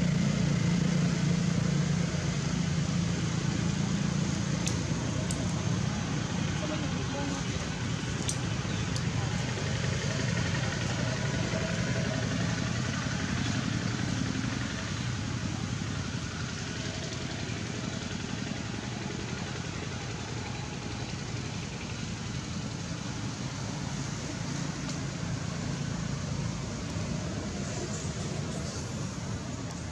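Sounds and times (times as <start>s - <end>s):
low outdoor rumble: 0.0s - 29.9s.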